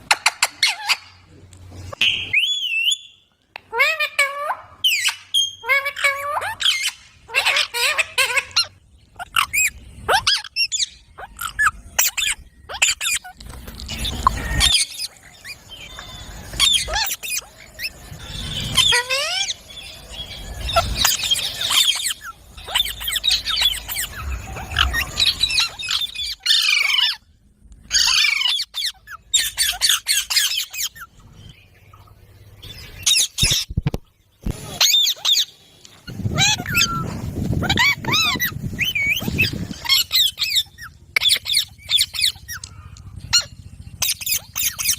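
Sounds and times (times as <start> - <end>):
parakeets calling: 0.0 - 1.3, 3.7 - 33.8, 34.4 - 44.9.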